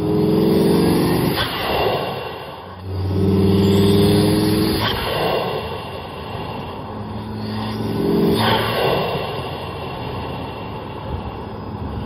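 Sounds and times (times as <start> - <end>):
sharp noise on throttle lift: 0.0 - 10.1
car engine revving: 0.0 - 12.0.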